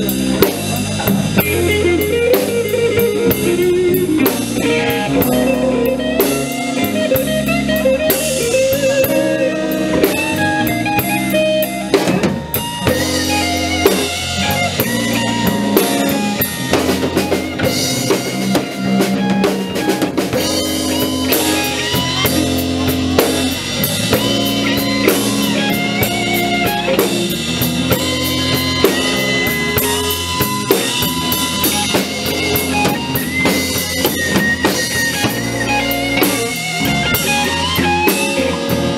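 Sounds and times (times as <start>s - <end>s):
bass guitar: 0.0s - 38.9s
drum kit: 0.0s - 38.9s
electric guitar lines: 0.0s - 38.9s.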